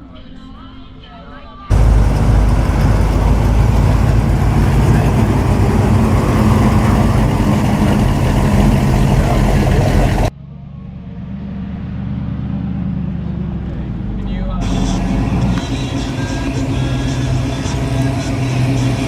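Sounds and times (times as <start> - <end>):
car engine running: 1.7 - 10.3, 11.2 - 19.0.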